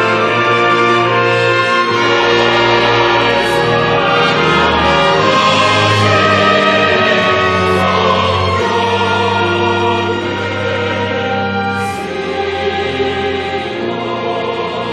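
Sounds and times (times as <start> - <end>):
choir singing a hymn: 0.0 - 14.9
orchestral accompaniment: 0.0 - 14.9.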